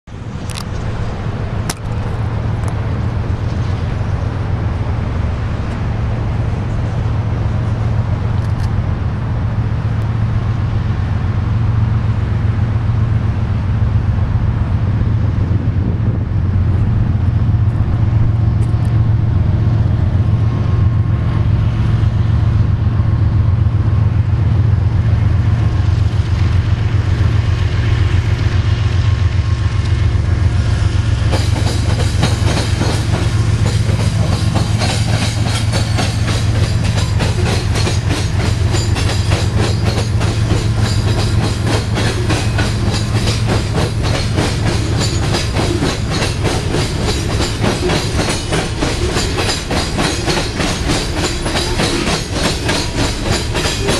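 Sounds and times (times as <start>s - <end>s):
diesel locomotives rumbling: 0.0s - 53.9s.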